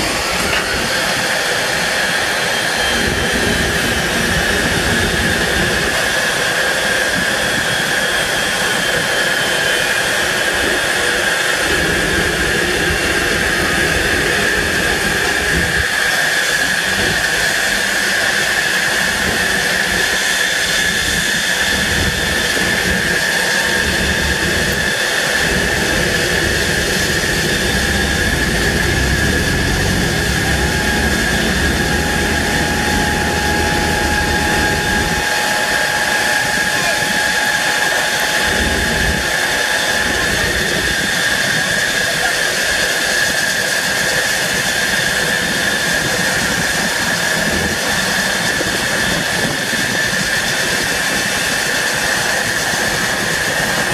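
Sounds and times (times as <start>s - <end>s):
jet turbine whine: 0.0s - 53.9s.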